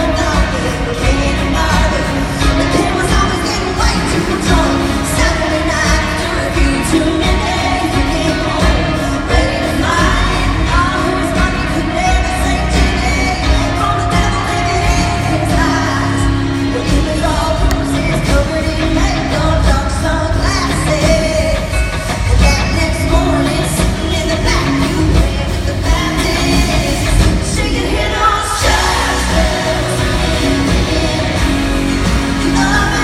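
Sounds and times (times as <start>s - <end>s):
country pop band playing: 0.0s - 33.0s
steady drums: 0.0s - 33.0s
woman singing: 0.0s - 33.0s.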